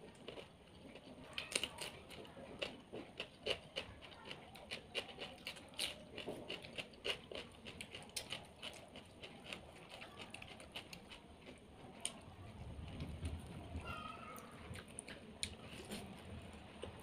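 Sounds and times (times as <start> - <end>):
person chewing and smacking: 0.0 - 13.6, 14.3 - 17.0.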